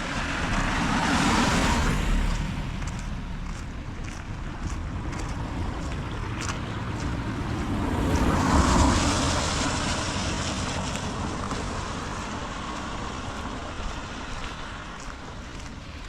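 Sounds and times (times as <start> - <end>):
tyres hissing on wet road: 0.0 - 3.5, 5.4 - 16.0
rain pattering: 0.0 - 16.0.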